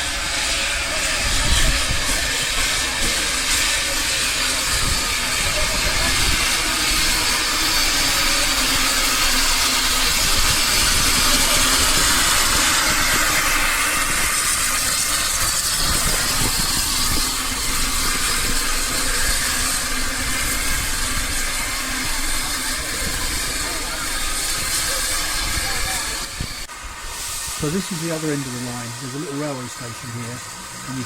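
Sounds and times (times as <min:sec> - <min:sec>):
train hissing: 0:00.0 - 0:31.0.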